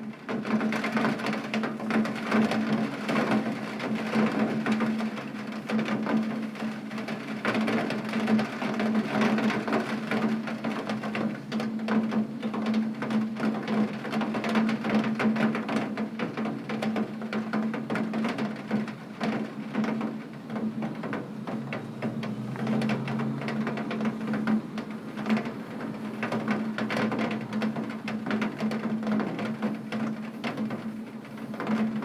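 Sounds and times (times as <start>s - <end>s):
heavy rain on window glass: 0.0s - 32.0s.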